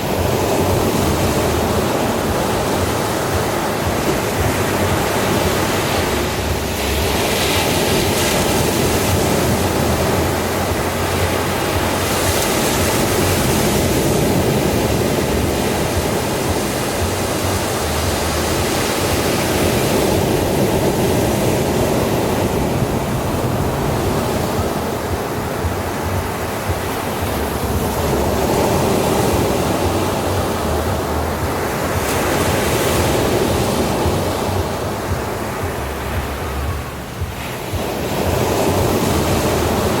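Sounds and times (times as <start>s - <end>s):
ocean waves breaking on beach: 0.0s - 40.0s.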